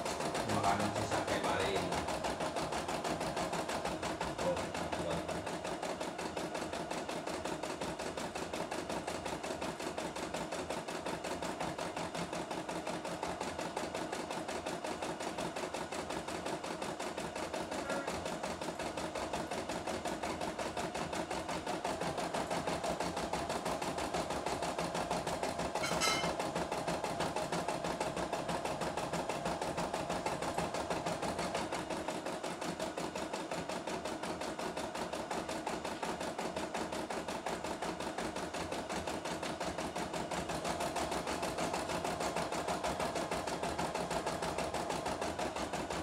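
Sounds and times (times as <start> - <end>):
embroidery machine stitching: 0.0 - 46.0.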